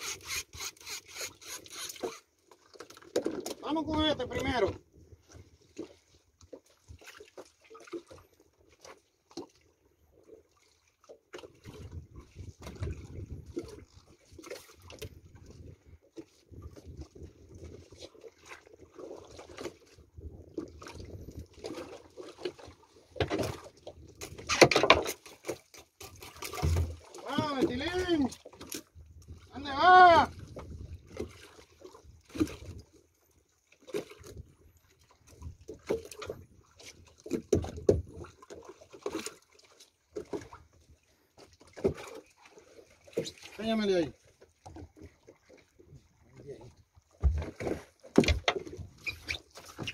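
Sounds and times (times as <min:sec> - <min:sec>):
water slapping against boat hull: 0:00.0 - 0:09.6, 0:10.5 - 0:33.0, 0:33.8 - 0:49.9.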